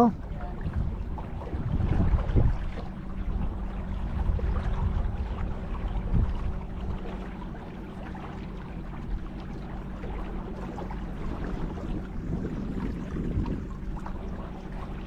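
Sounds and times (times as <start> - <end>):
steady low hum: 0.0 - 15.0
water noise: 0.0 - 15.0
wind: 0.0 - 15.0.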